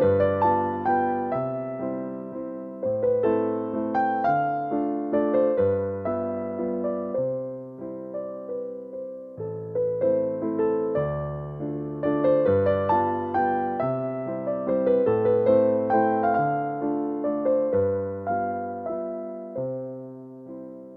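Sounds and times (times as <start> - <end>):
gentle piano music: 0.0 - 20.9.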